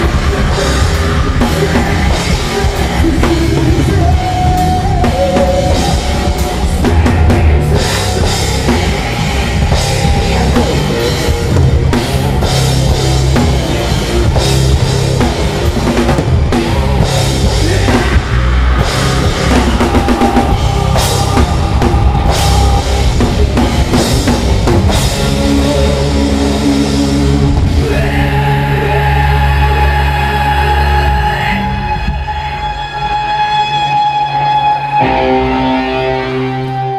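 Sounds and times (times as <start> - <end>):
rock band playing loudly: 0.0 - 36.9.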